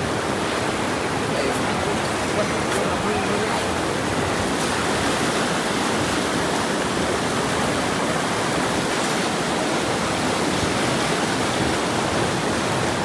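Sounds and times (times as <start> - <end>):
floodwater rushing through gate: 0.0 - 13.0.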